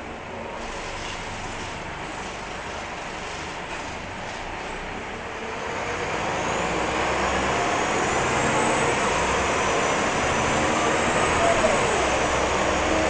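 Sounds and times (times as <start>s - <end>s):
bus engine running: 0.0s - 13.0s.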